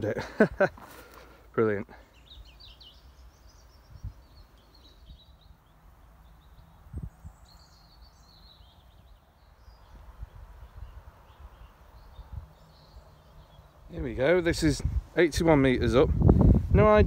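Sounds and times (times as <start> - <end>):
faint birds twittering: 0.0 - 17.0.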